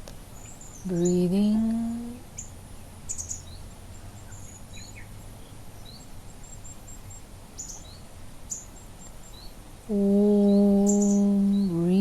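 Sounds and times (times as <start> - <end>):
birds chirping: 0.0 - 12.0
faint low hum: 0.0 - 12.0.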